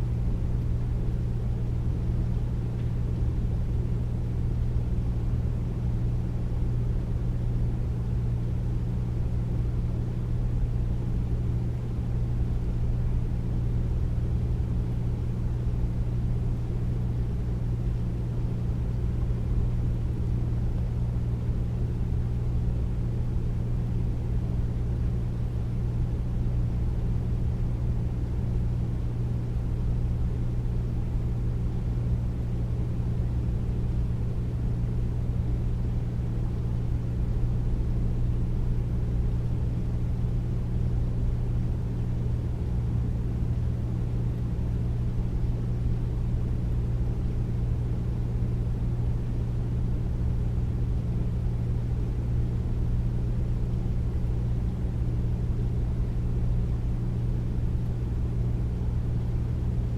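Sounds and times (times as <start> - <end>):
air conditioner humming: 0.0 - 59.9.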